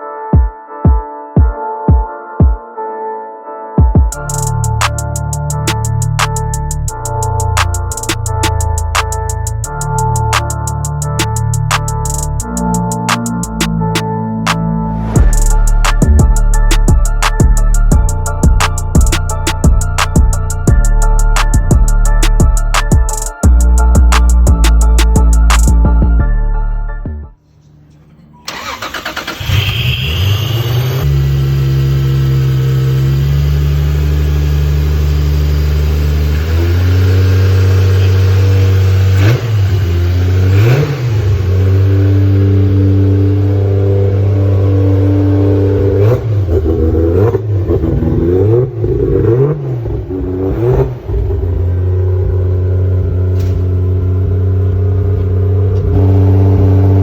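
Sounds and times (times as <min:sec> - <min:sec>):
car engine idling and revving: 0:04.2 - 0:26.0, 0:27.9 - 0:57.0.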